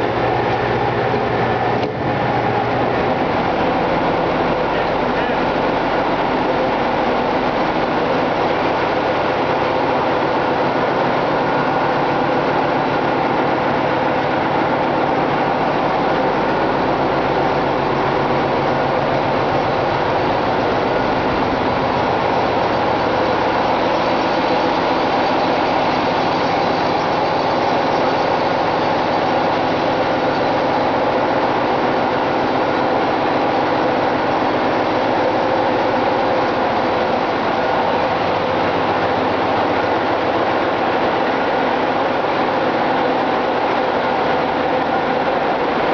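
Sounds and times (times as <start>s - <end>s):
engine room machinery din: 0.0s - 45.9s.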